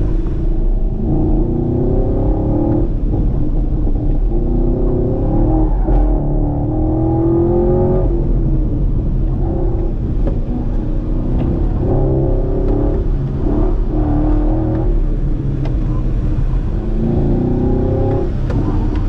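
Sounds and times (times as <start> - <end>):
car engine accelerating: 0.0 - 19.0
tyre and road noise: 0.0 - 19.0.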